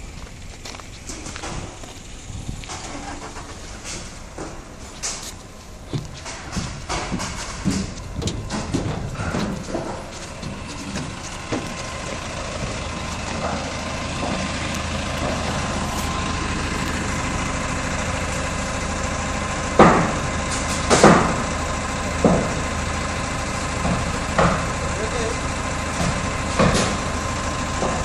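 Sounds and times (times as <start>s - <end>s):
forklift engine running: 0.0s - 28.0s.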